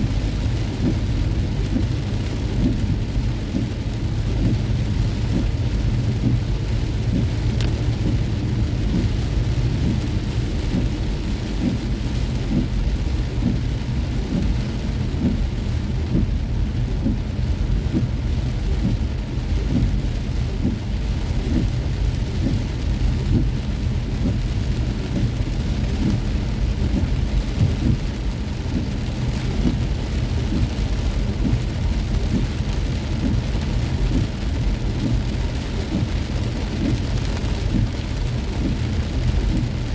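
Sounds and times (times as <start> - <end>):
heavy rain drumming on a car: 0.0 - 39.9.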